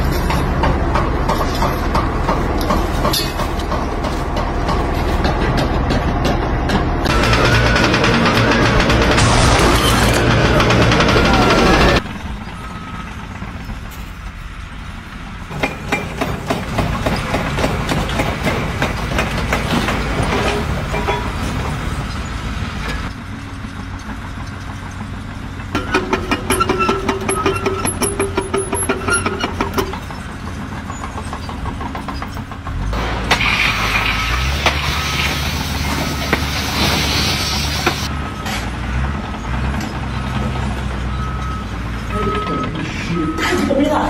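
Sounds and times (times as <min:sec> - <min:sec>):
engine running: 0:00.0 - 0:44.0.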